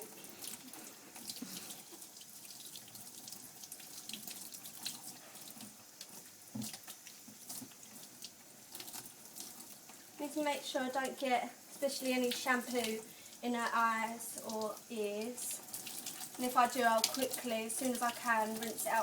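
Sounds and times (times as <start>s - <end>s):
water splashing and dripping: 0.0s - 19.0s.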